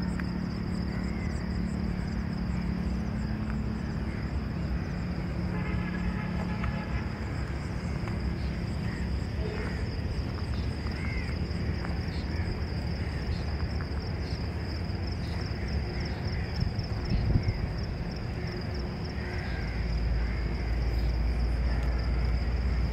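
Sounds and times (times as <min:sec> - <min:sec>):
insects trilling: 0:00.0 - 0:22.9.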